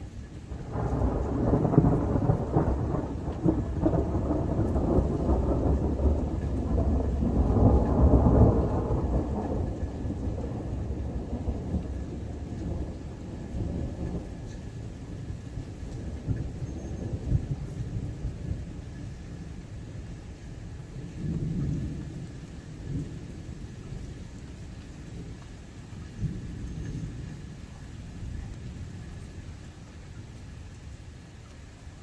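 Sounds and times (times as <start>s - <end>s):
thunder rumbling: 0.0s - 31.0s.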